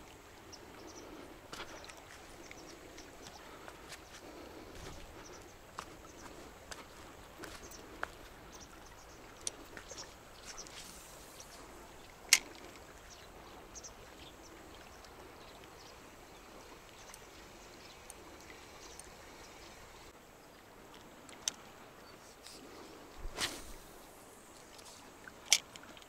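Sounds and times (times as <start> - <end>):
river water running over riffle: 0.0 - 26.0.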